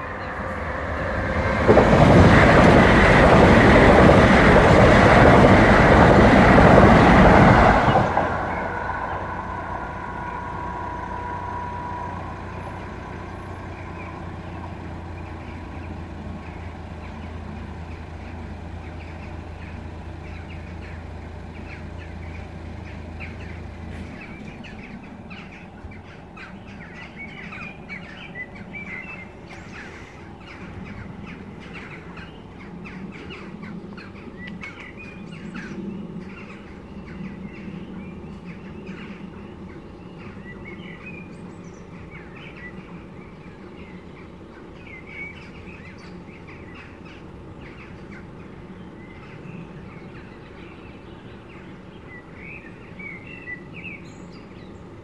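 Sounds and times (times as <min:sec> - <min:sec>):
low outdoor hum: 0:00.0 - 0:55.0
small birds chirping: 0:00.0 - 0:55.0.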